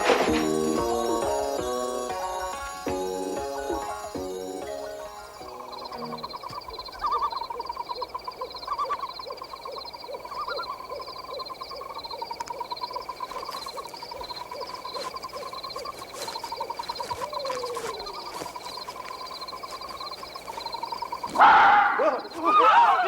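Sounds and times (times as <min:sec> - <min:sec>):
chorus of trilling calls: 0:00.0 - 0:23.0.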